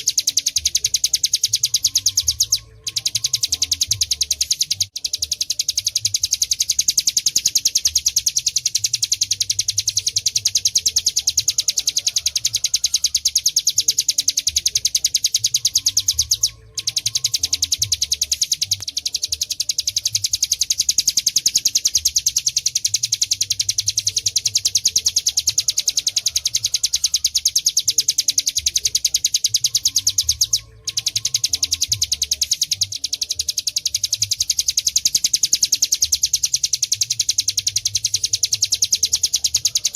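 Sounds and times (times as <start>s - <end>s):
bird singing fast trill: 0.0s - 39.9s.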